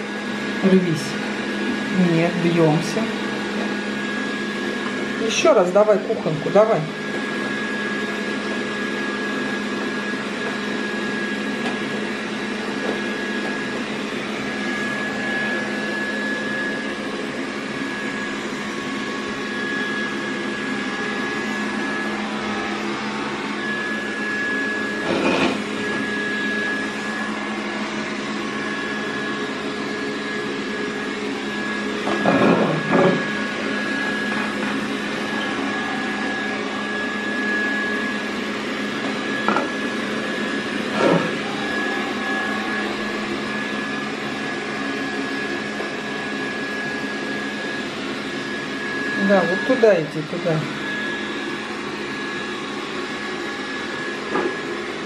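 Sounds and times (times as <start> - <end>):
robot vacuum running: 0.0 - 55.0.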